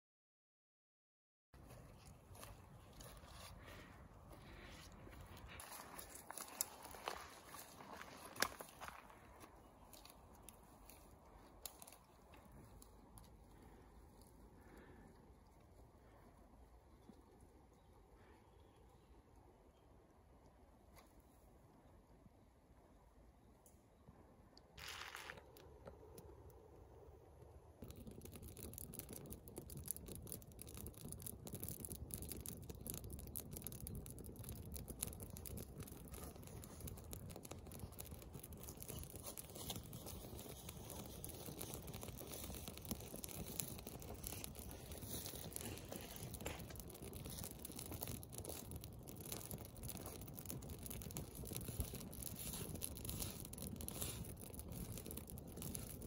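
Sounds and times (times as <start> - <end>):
campfire crackling and burning: 1.6 - 56.0.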